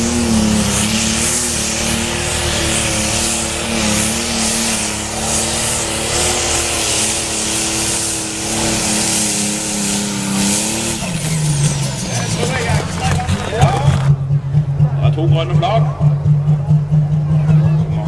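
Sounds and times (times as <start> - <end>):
tractor engine at high revs: 0.0 - 18.0.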